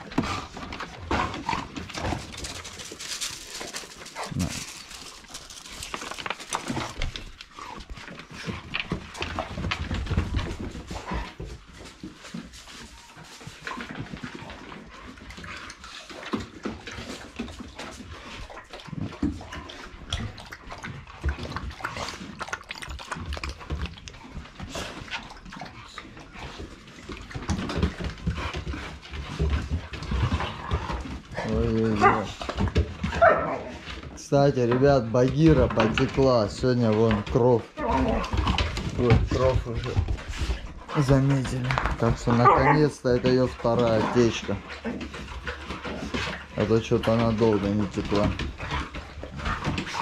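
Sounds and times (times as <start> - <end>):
dog noises: 0.0 - 34.2, 35.3 - 50.0
dogs crunching bones: 0.0 - 50.0.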